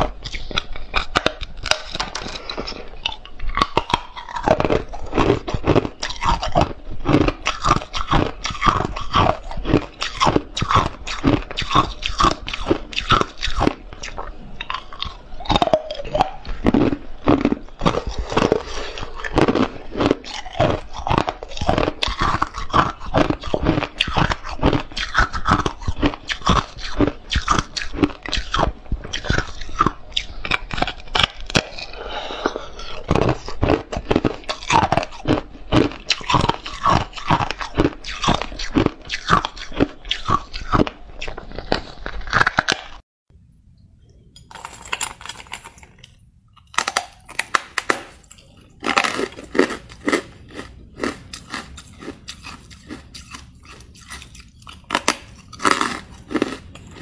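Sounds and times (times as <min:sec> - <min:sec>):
crunching and chewing ice: 0:00.0 - 0:43.0, 0:44.5 - 0:57.0.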